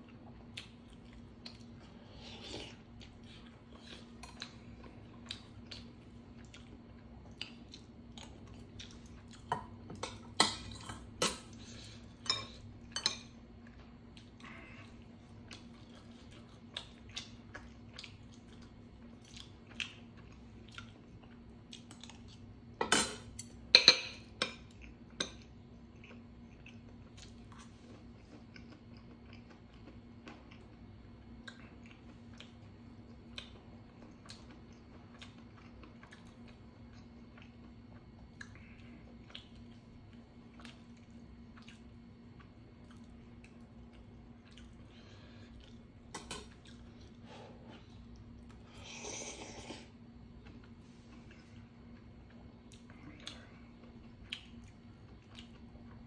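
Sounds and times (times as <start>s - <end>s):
person chewing food: 0.0s - 22.7s, 23.4s - 56.0s
faint steady hum: 0.0s - 56.0s.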